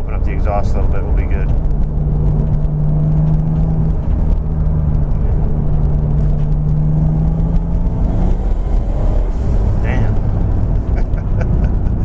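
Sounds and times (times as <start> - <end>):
car engine drone: 0.0 - 12.0
low road rumble: 0.0 - 12.0.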